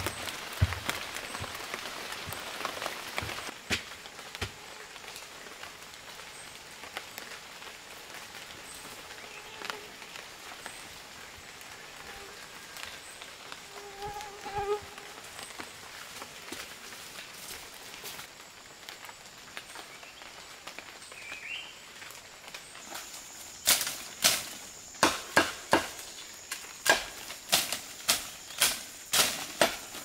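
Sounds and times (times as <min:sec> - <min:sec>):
forest insect hum: 0:00.0 - 0:30.0.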